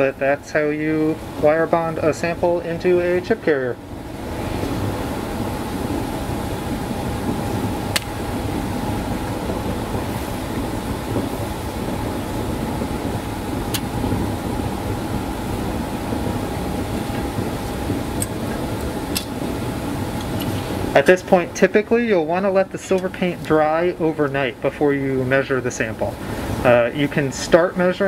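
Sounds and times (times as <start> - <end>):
mechanical hum with whine: 0.0 - 28.0.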